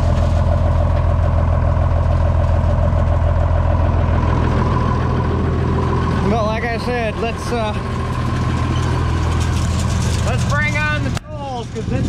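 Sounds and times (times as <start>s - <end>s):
low engine hum: 0.0s - 12.0s
machinery whine: 0.0s - 12.0s.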